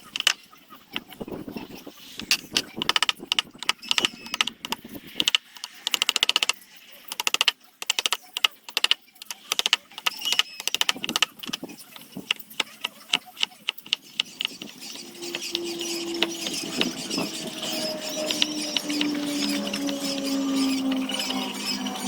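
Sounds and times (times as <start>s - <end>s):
hand tools clicking on wood: 0.1s - 0.4s, 2.3s - 22.0s.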